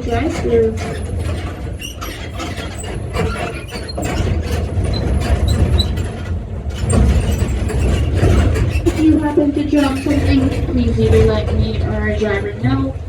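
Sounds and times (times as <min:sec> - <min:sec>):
rattling over cattle guard: 0:00.0 - 0:12.8
tram engine rumble: 0:00.0 - 0:13.0.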